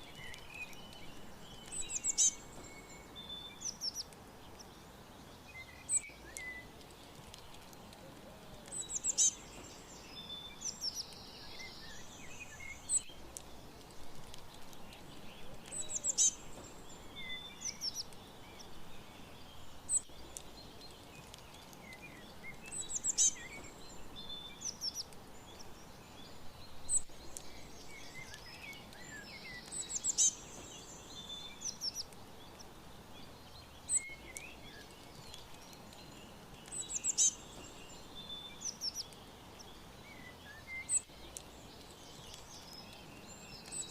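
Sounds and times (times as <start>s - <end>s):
faint steady hiss: 0.0s - 43.9s
rapid loud bird chirps: 0.0s - 43.9s
songbirds chirping and trilling: 0.0s - 43.9s.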